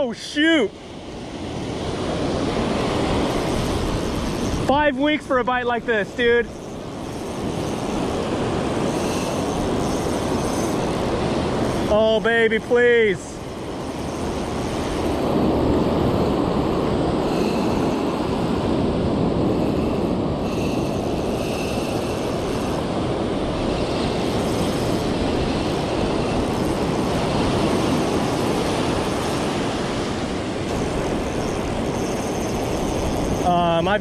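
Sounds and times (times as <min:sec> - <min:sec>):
ocean surf washing on sand: 0:00.0 - 0:34.0.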